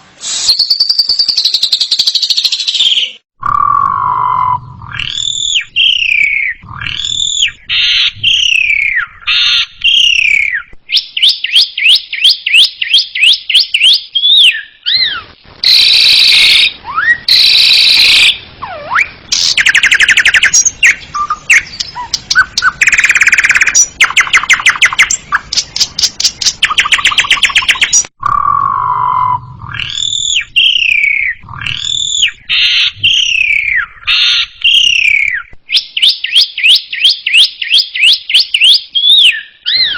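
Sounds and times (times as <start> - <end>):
starling singing: 0.6 - 39.9.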